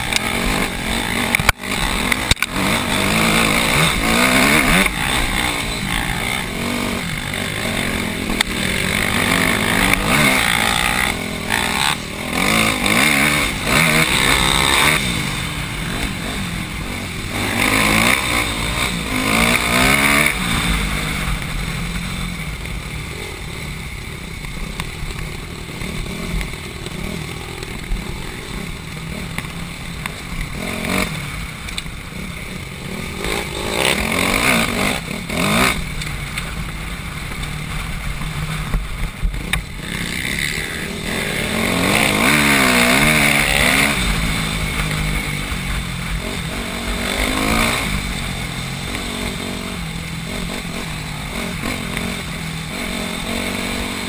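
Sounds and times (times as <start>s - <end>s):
dirt bike engine revving: 0.0s - 54.0s
wind: 0.0s - 54.0s.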